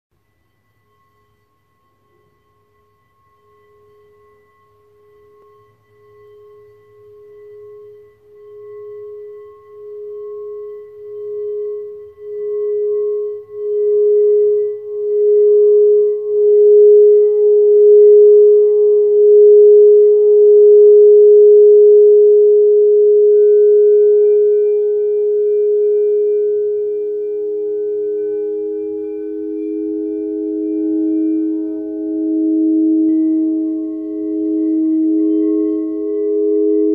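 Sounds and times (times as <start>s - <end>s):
crystal singing bowl ringing: 0.2s - 36.9s
lower-pitched singing bowl: 0.2s - 36.9s.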